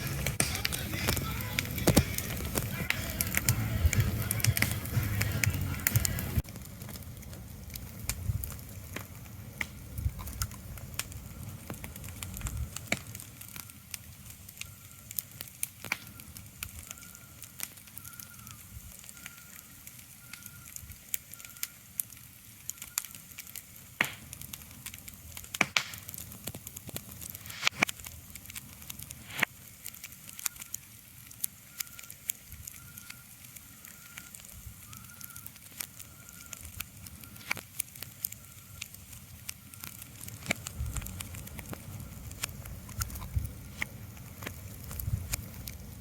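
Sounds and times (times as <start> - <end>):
sharp crackles and pops: 0.0 - 46.0.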